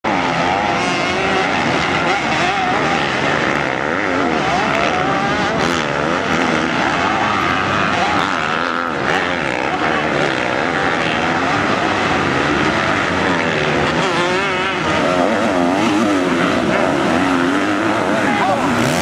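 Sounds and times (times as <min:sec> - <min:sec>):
motocross bikes racing: 0:00.1 - 0:19.0.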